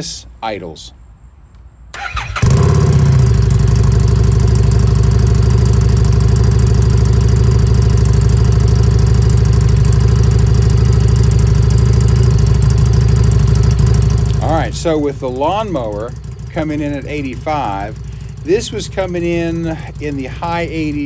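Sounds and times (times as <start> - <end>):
motorcycle engine idling loudly: 2.0 - 21.0.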